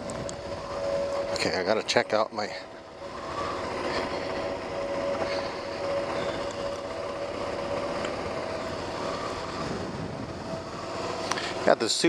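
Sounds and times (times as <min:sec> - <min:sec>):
wind noise: 0:00.0 - 0:01.4, 0:03.1 - 0:11.6
gravel road noise: 0:00.0 - 0:12.0
motorcycle engine cruising: 0:00.0 - 0:12.0.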